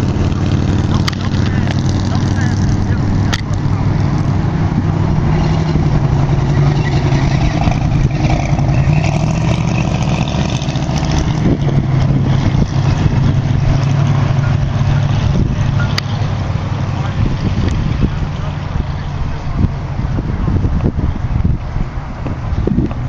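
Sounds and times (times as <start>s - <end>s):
car engines cruising past: 0.0s - 23.0s.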